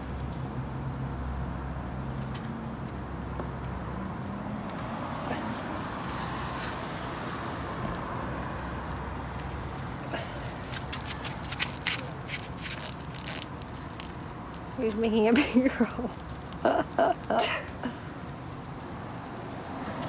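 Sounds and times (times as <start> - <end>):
tyre noise of passing vehicle: 0.0 - 20.0
vehicle engine hum: 0.0 - 20.0.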